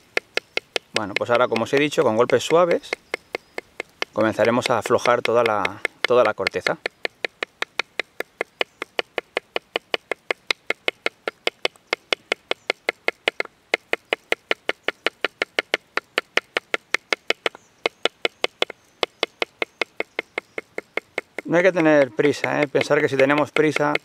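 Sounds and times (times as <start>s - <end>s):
wooden stick tapping a branch: 0.0s - 24.0s.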